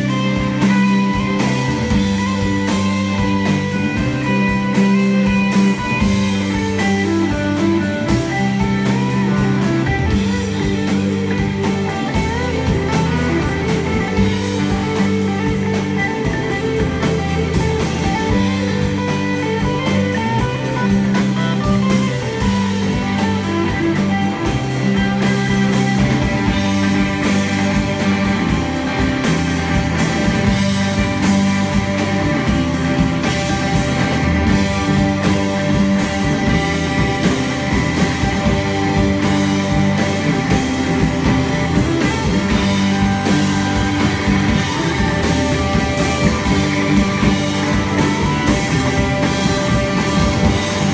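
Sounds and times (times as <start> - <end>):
bass holding long low notes: 0.0 - 50.9
drums keeping steady beat: 0.0 - 50.9
electric guitar: 0.0 - 50.9
live rock band playing: 0.0 - 50.9.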